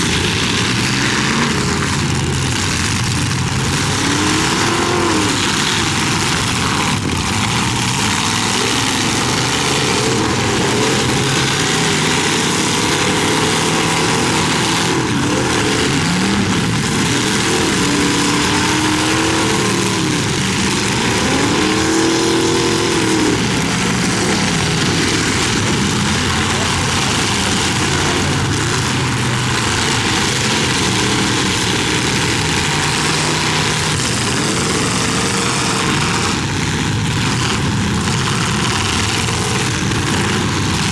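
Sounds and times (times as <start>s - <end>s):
car engines revving: 0.0s - 40.9s
dense noise: 0.0s - 40.9s.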